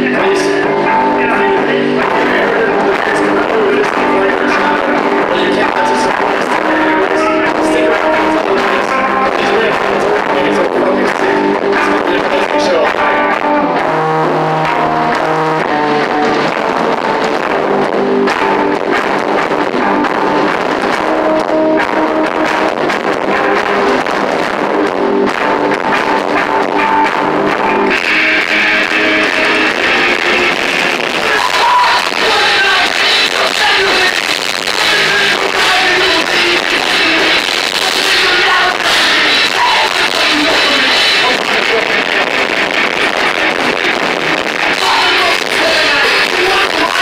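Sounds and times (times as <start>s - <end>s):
heavy metal band playing live: 0.0s - 47.0s.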